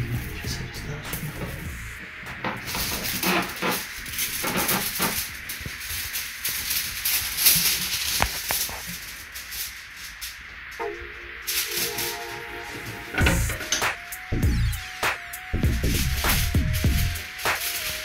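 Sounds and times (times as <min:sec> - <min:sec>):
aluminium foil crinkling: 0:02.4 - 0:10.8, 0:11.4 - 0:18.0.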